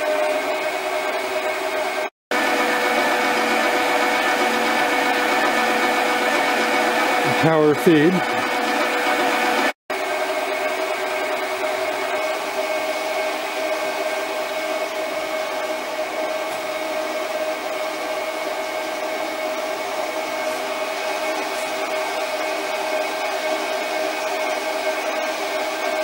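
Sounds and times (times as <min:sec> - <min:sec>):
lathe motor and gear whine: 0:00.0 - 0:26.0.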